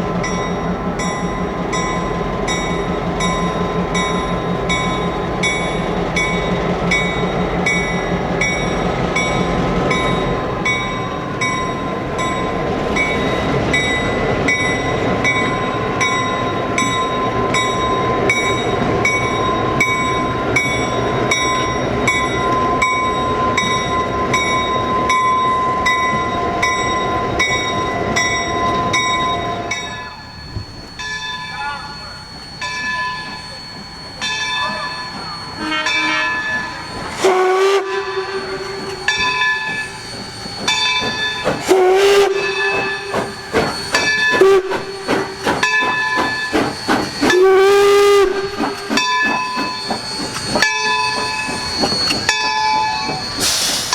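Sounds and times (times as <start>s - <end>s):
locomotive bell ringing: 0.0s - 53.9s
locomotive engine running: 0.0s - 53.9s.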